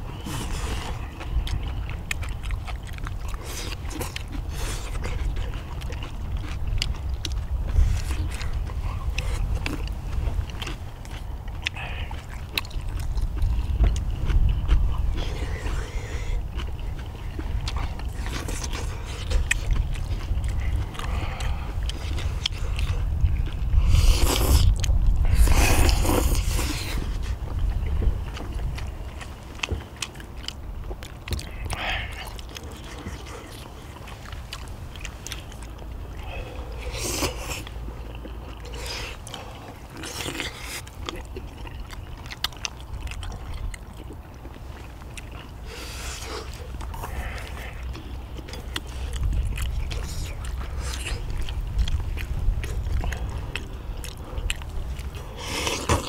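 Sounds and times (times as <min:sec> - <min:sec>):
wind rumble on microphone: 0:00.0 - 0:37.0, 0:46.4 - 0:56.0
chewing: 0:00.0 - 0:56.0.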